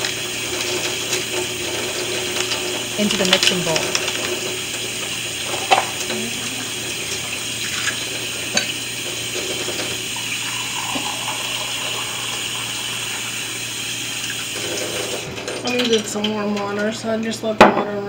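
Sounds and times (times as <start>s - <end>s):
faucet running into sink: 0.0s - 16.8s.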